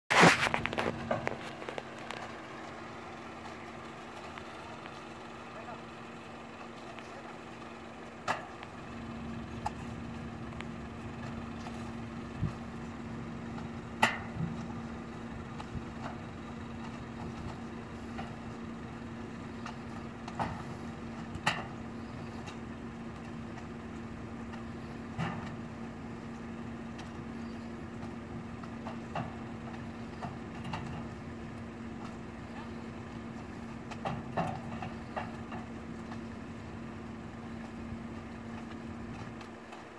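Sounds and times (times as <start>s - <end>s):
vehicle engine idling: 0.1s - 39.9s.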